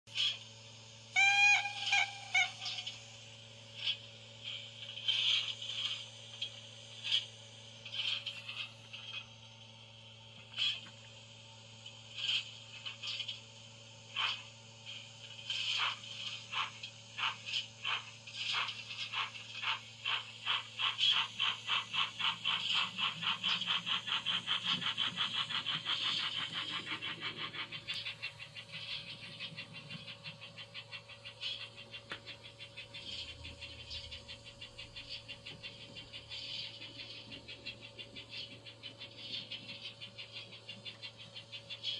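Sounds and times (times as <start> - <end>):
steam hissing from a speaker: 0.1 - 9.2, 10.6 - 41.9
faint steady hum: 0.1 - 41.9.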